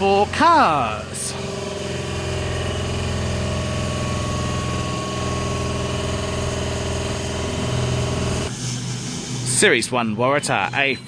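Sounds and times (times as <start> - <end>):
electric train motors humming: 0.0 - 9.6.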